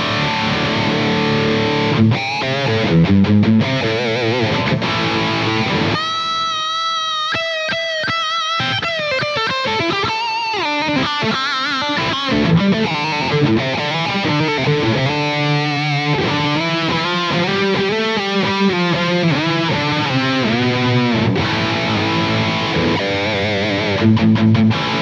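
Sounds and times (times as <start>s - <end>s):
electric guitar solo: 0.0s - 25.0s.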